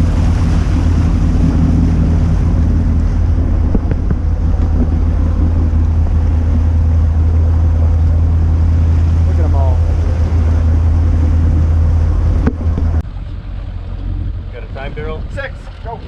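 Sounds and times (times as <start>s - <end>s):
boat engine droning: 0.0s - 16.0s
water rushing along hull: 0.0s - 16.0s
wind buffeting microphone: 0.0s - 16.0s.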